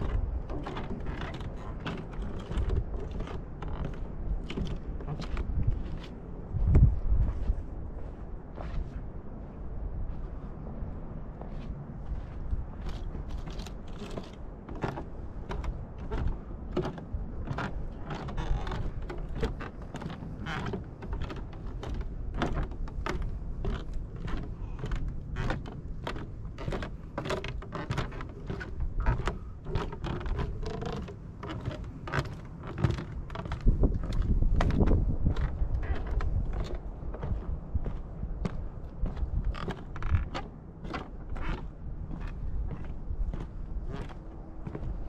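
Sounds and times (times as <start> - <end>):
footsteps on wooden boardwalk: 0.0 - 45.0
steady low rumble: 0.0 - 45.0.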